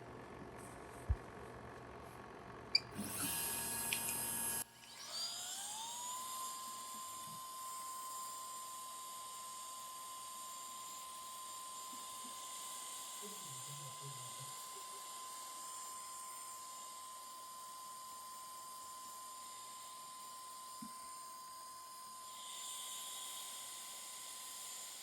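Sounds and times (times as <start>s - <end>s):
machine spindle whine: 2.9s - 25.0s.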